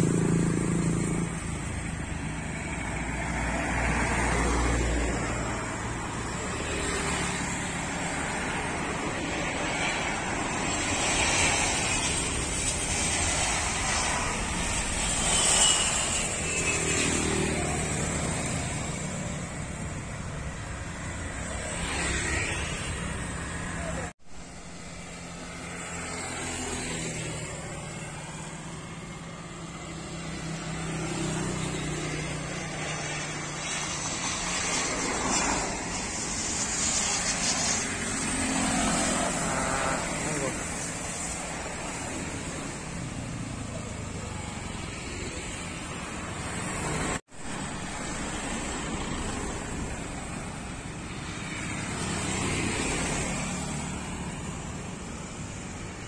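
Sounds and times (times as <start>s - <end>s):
cars and motorbikes passing: 0.0s - 56.0s
jet aircraft approaching: 0.0s - 56.0s.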